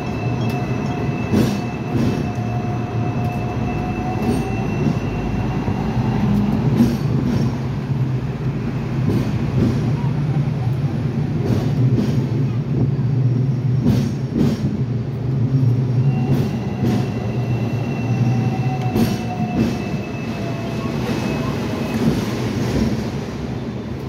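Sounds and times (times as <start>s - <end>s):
tram rumbling on track: 0.0s - 24.0s.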